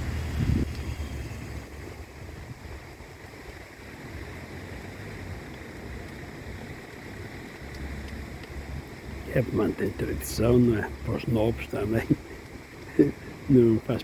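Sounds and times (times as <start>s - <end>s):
bonfire burning: 0.0s - 14.0s
wind buffeting microphone: 0.0s - 14.0s.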